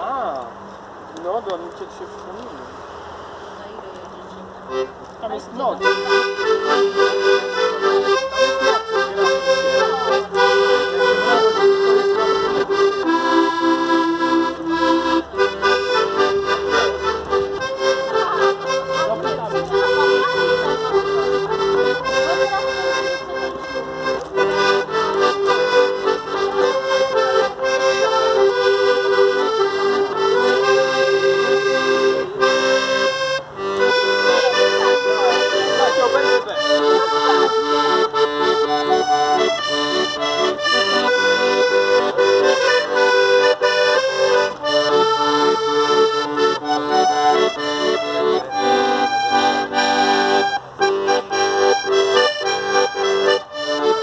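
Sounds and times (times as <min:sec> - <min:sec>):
accordion playing a tune: 0:00.0 - 0:54.0.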